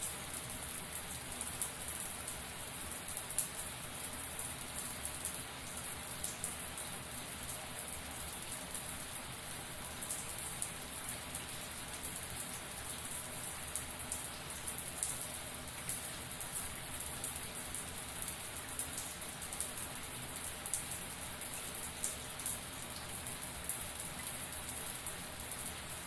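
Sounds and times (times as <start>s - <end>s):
shower water running: 0.0s - 26.0s.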